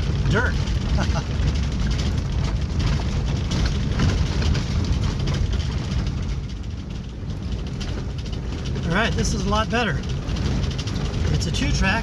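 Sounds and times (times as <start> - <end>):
rattles and jolts: 0.0 - 12.0
van engine and road rumble: 0.0 - 12.0.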